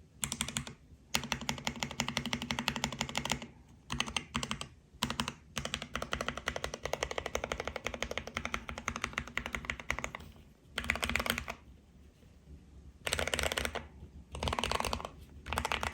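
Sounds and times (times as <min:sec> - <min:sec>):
typing on mechanical keyboard: 0:00.2 - 0:11.6, 0:13.0 - 0:15.9.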